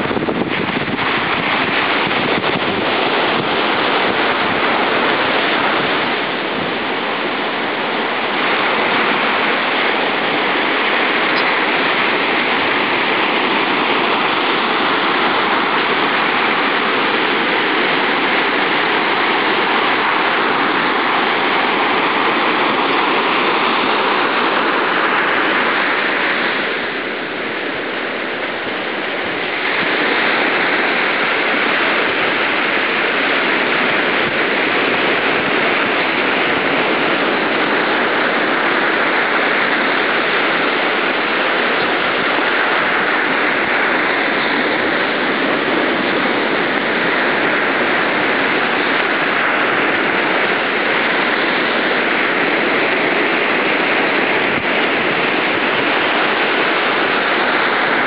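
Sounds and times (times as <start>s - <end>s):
surf washing up a beach: 0.0s - 58.0s.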